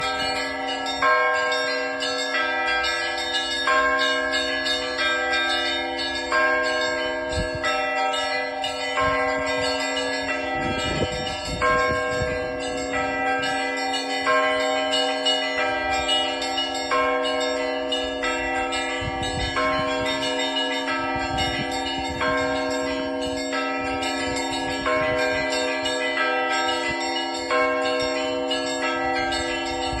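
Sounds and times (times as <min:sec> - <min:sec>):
church bells ringing: 0:00.0 - 0:30.0
large bell hum: 0:00.0 - 0:30.0.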